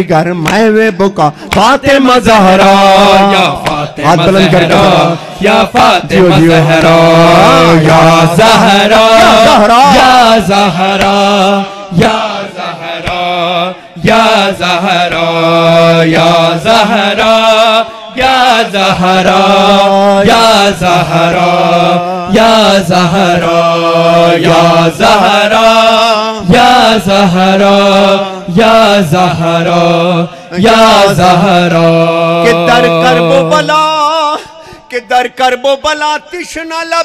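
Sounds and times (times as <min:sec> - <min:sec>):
men chanting in unison: 0:01.3 - 0:34.8.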